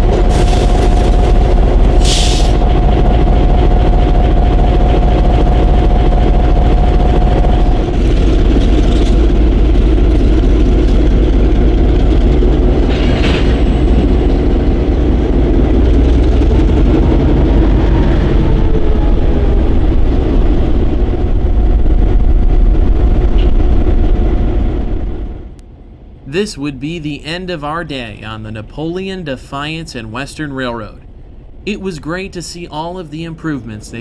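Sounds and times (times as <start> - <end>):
diesel locomotive running: 0.0 - 34.0
railcars clattering over track: 0.0 - 34.0.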